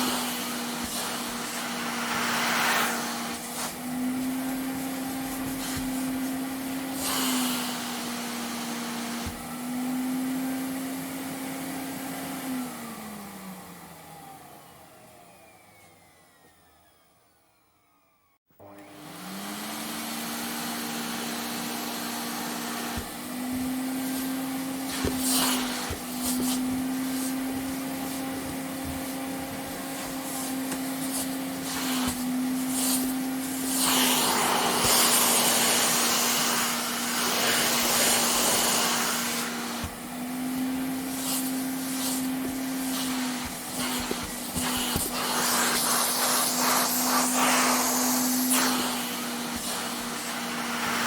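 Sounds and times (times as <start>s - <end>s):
vacuum cleaner motor whining: 0.0s - 51.0s.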